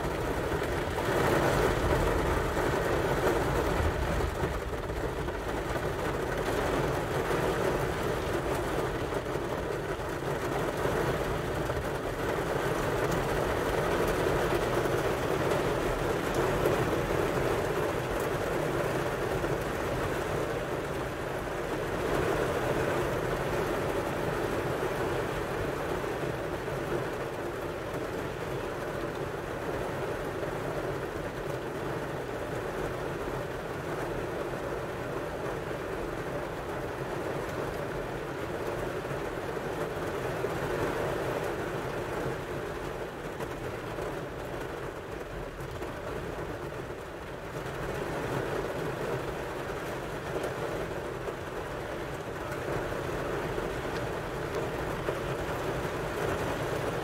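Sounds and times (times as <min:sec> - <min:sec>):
rain on a car roof: 0:00.0 - 0:57.0.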